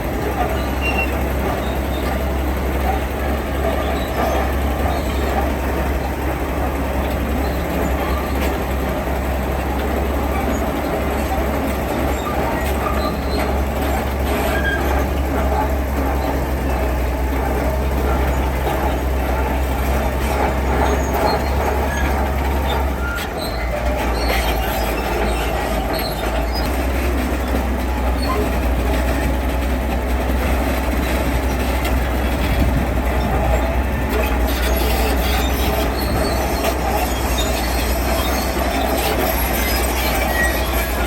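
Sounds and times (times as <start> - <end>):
diesel machinery engine hum: 0.0 - 41.0
noisy grinding: 0.0 - 41.0.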